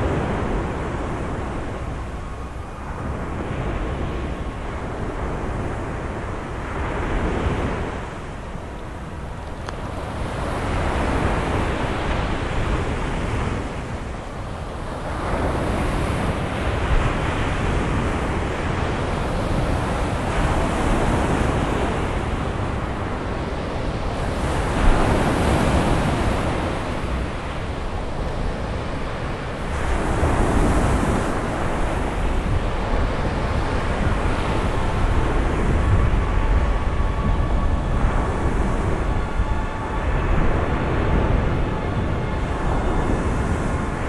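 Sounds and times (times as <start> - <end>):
sea waves washing ashore: 0.0 - 44.0
wind on microphone: 0.0 - 44.0.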